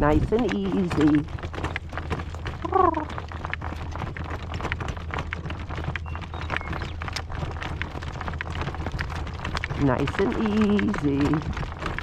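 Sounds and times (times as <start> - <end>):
horse hoofbeats trotting: 0.0 - 12.0
low rumble: 0.0 - 12.0.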